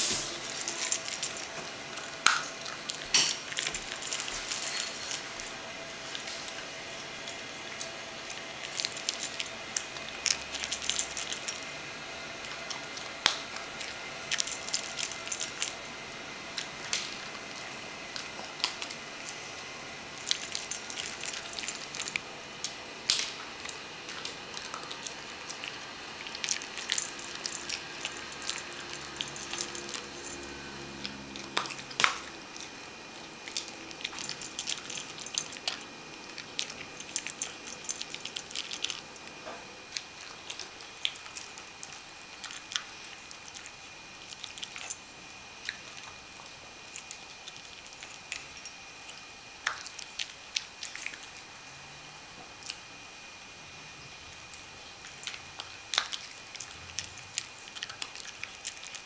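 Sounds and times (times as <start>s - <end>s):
dog crunching kibble: 0.0s - 51.5s, 54.1s - 59.0s.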